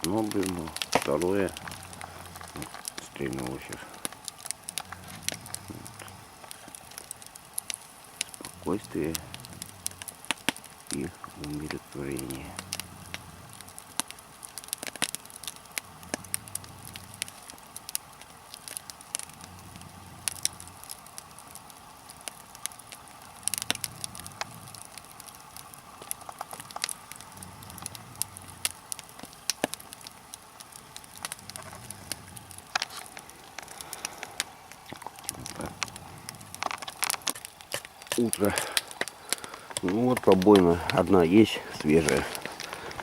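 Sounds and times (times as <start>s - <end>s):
fire crackling and popping: 0.0s - 43.0s.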